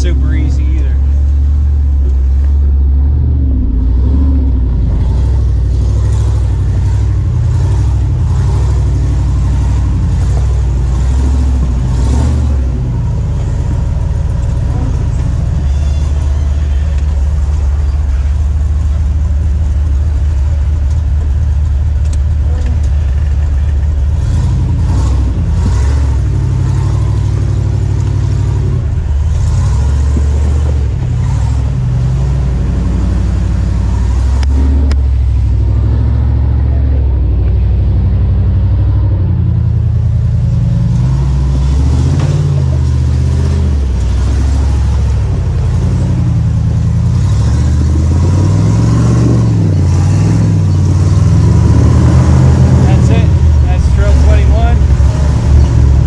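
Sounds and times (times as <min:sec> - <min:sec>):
truck engine revving under load: 0:00.0 - 0:56.0.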